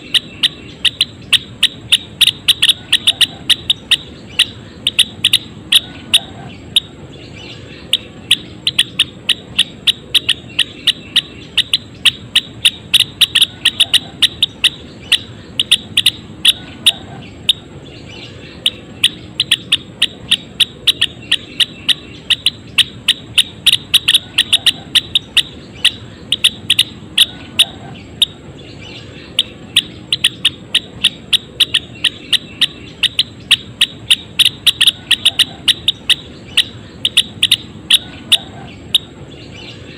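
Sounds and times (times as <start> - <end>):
bird chipping: 0.0 - 39.9.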